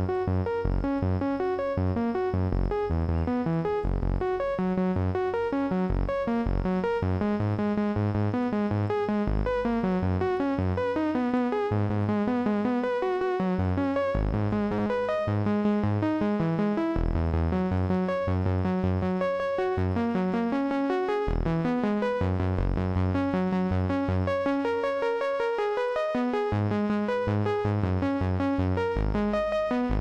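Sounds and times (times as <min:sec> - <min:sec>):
low sustained synth bass: 0:00.0 - 0:30.0
synthesizer arpeggio notes: 0:00.0 - 0:30.0.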